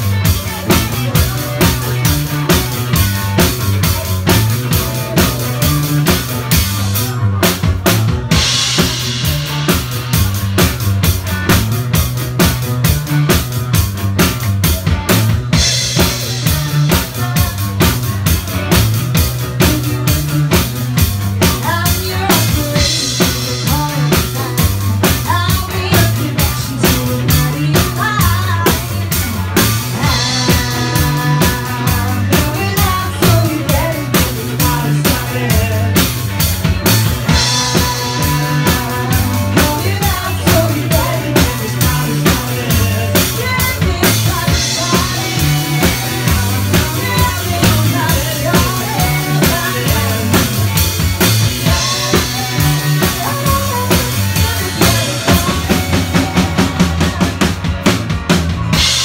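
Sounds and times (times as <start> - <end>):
live band music: 0.0 - 59.0.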